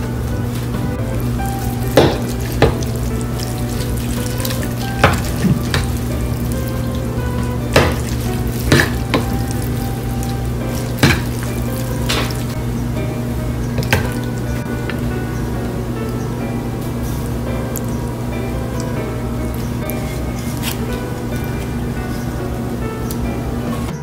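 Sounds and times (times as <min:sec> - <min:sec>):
wet squishing noodles: 0:00.0 - 0:23.2
steady low hum: 0:00.0 - 0:24.0.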